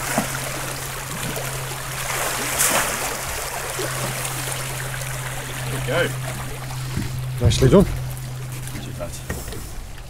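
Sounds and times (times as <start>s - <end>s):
low engine hum: 0.0s - 10.0s
water splashing and swirling: 0.0s - 10.0s.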